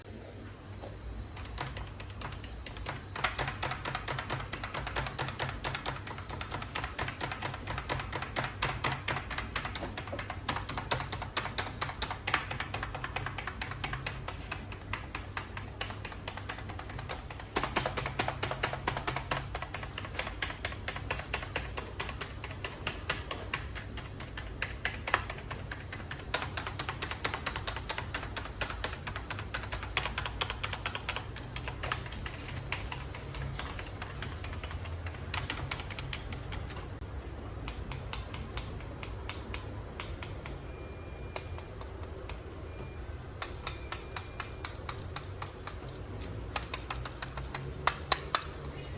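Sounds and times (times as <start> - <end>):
typing on computer keyboard: 1.2 - 48.7.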